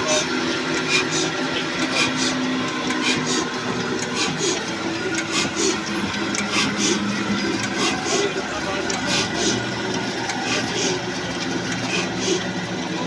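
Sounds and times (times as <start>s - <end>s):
diesel engine running rhythmically: 0.0s - 13.0s.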